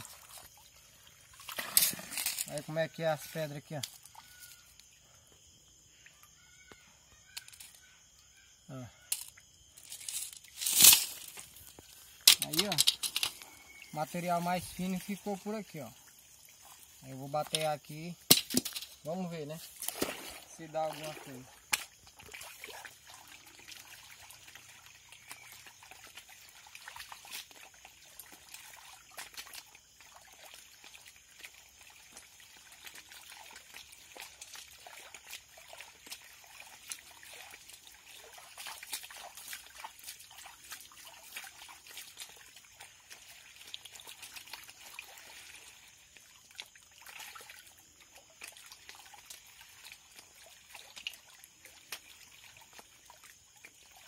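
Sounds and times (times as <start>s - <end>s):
small splashes: 0.0s - 54.0s
water sloshing and trickling: 0.0s - 54.0s.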